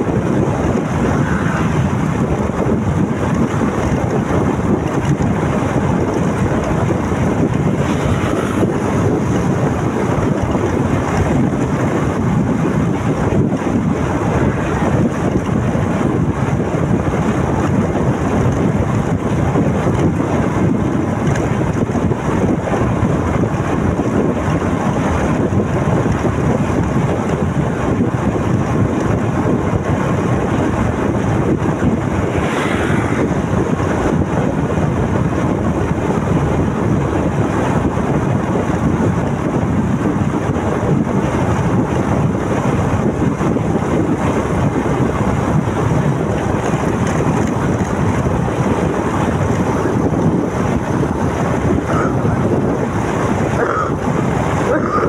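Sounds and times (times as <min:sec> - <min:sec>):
road noise: 0:00.0 - 0:55.0
wind noise on microphone: 0:00.0 - 0:55.0.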